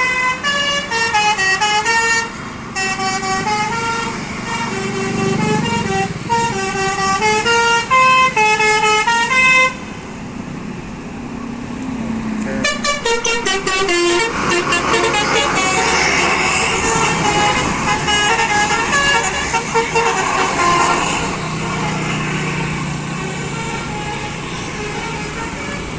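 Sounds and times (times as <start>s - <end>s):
musical air horn: 0.0s - 9.9s, 12.6s - 25.9s
bus engine hum: 0.0s - 25.9s.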